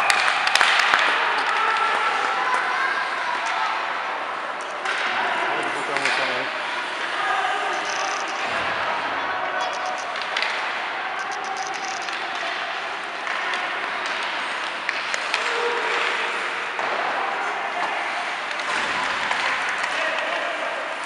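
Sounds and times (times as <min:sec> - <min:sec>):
hockey sticks and puck clacking: 0:00.0 - 0:04.0, 0:04.6 - 0:09.0, 0:09.6 - 0:21.0
crowd shouting and cheering: 0:00.0 - 0:21.0.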